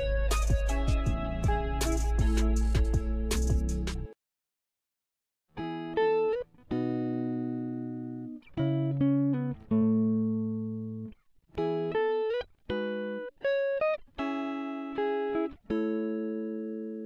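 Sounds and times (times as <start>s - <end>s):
plucked guitar notes: 0.0s - 4.1s, 5.6s - 17.0s.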